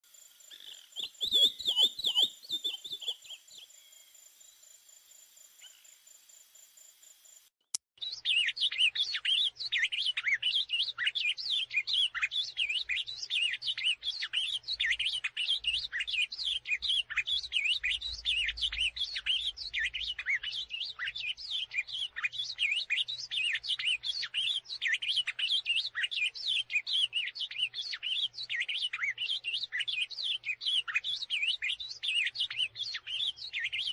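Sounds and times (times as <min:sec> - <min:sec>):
songbirds chirping and trilling: 0:00.1 - 0:06.1, 0:08.0 - 0:33.9.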